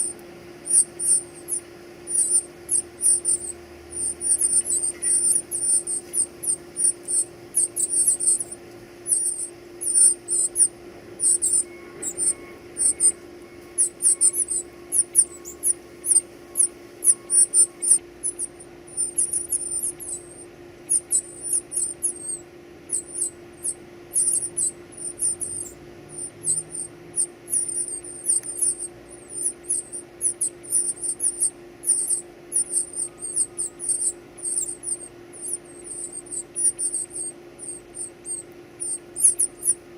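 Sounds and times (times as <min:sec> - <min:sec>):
baby birds cheeping: 0:00.0 - 0:39.9
steady low hum: 0:00.0 - 0:39.9.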